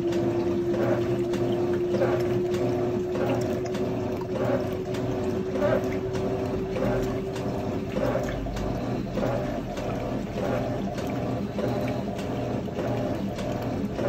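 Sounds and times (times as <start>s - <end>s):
washing machine whirring: 0.0s - 14.0s
water sloshing: 0.0s - 14.0s.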